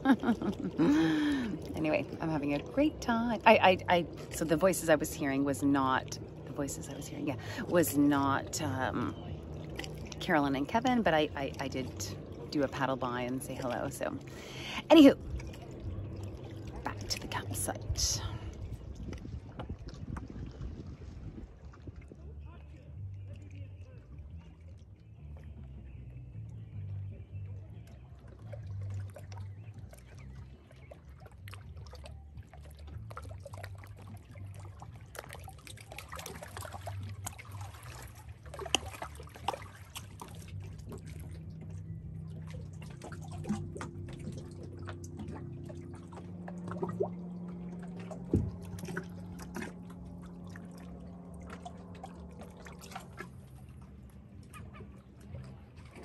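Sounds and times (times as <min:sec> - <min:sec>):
water trickling and dripping: 0:00.0 - 0:26.9, 0:27.6 - 0:56.0
low steady hum: 0:00.0 - 0:56.0.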